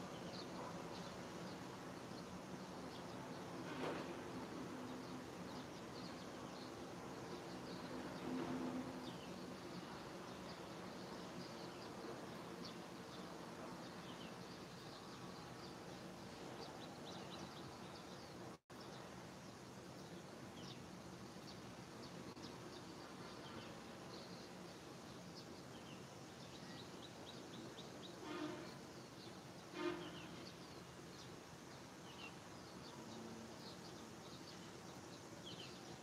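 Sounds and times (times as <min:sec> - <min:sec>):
steady distant hum: 0:00.0 - 0:36.0.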